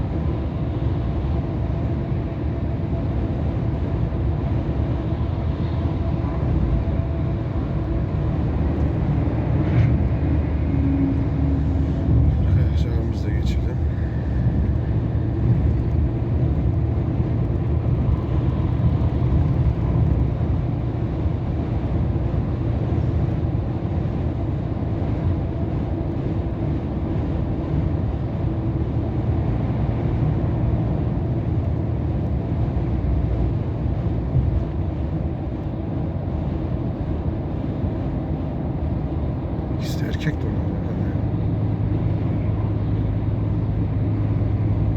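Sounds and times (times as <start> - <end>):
road noise: 0.0 - 44.9
truck diesel engine drone: 0.0 - 44.9.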